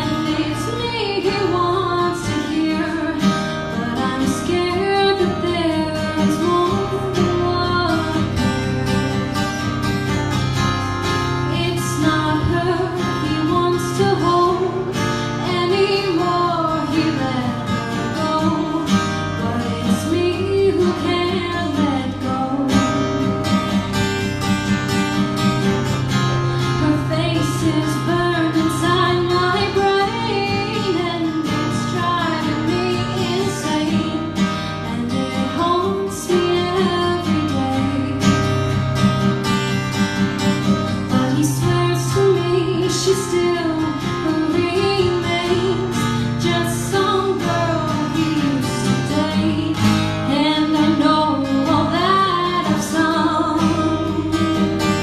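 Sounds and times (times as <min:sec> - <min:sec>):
woman singing: 0:00.0 - 0:25.4, 0:26.6 - 0:55.0
acoustic guitar strumming: 0:00.0 - 0:55.0.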